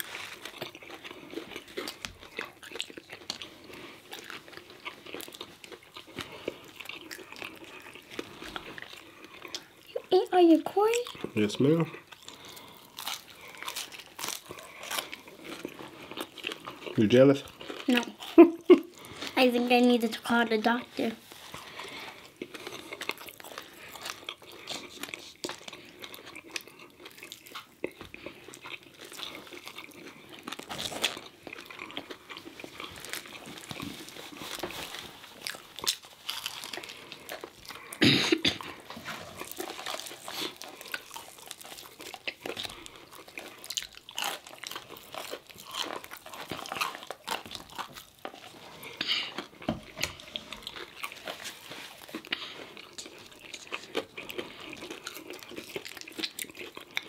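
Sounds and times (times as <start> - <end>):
chewing and crunching fried food: 0.0 - 57.0.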